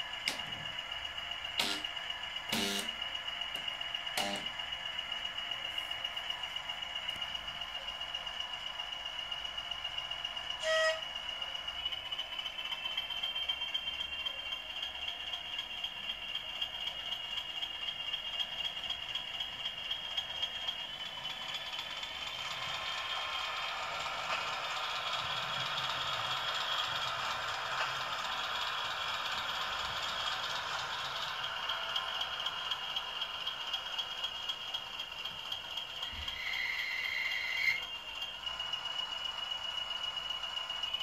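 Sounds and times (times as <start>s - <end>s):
model train motor whine: 0.0s - 41.0s
wheels rattling over rail joints: 0.0s - 41.0s.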